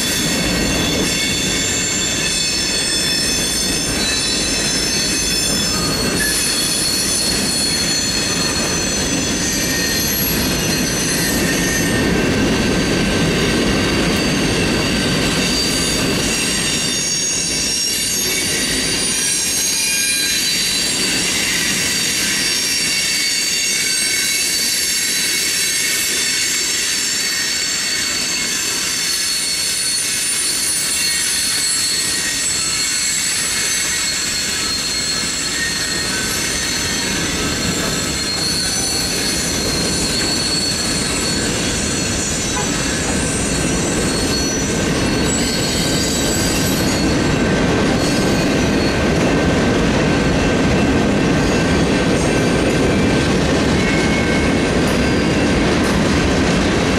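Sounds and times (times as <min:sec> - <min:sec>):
high wheel squeal: 0:00.0 - 0:49.5, 0:50.4 - 0:56.2
train wheels rumbling on rail: 0:00.0 - 0:56.9.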